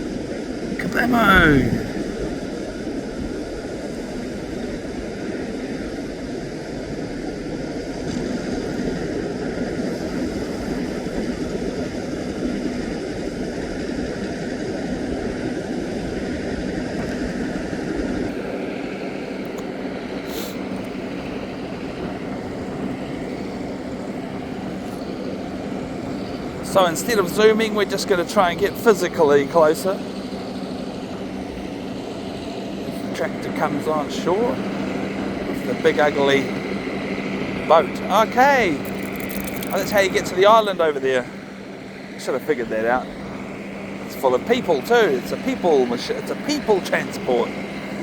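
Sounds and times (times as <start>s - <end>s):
tractor engine running: 0.0s - 48.0s
waves: 0.0s - 48.0s
wind: 0.0s - 48.0s.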